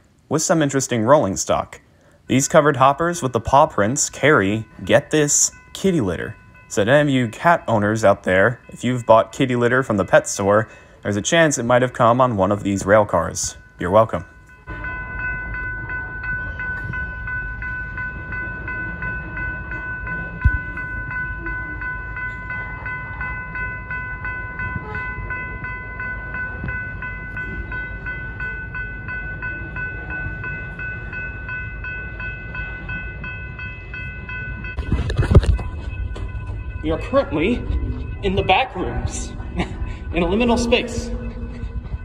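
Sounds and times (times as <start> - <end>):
crossing warning bell ringing: 0.0 - 42.0.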